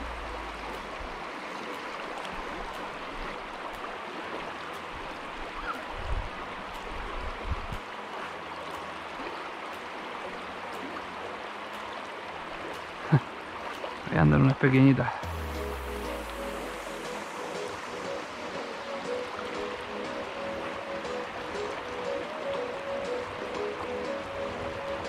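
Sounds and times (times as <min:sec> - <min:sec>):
river rushing over riffle: 0:00.0 - 0:25.0.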